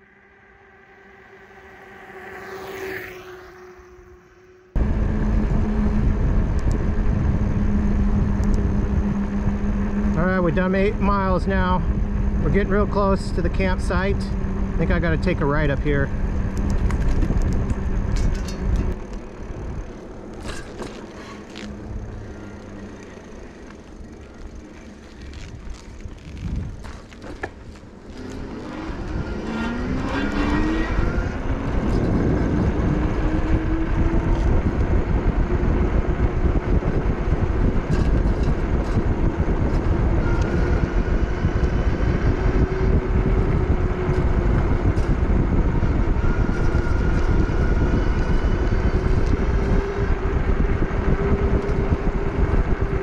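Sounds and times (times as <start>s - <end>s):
electric motor whine: 0.0s - 15.1s, 15.8s - 53.0s
wind rushing over microphone: 0.0s - 53.0s.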